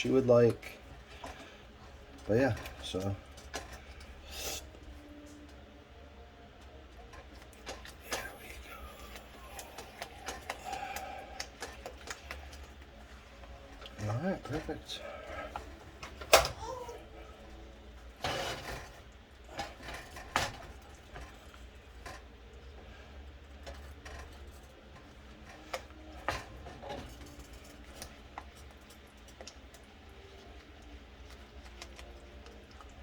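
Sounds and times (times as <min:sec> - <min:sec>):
utensils and dishes clinking: 0:00.0 - 0:05.5, 0:07.0 - 0:33.0
low steady hum: 0:00.0 - 0:33.0.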